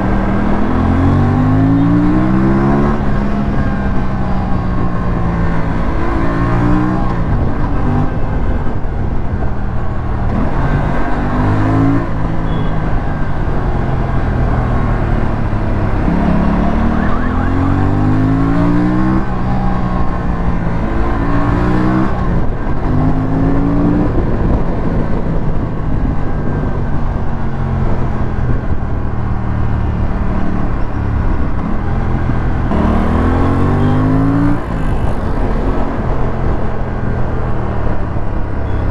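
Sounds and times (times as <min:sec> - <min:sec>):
motorcycle engine shifting gears: 0:00.0 - 0:38.9
rush of riding noise: 0:00.0 - 0:38.9.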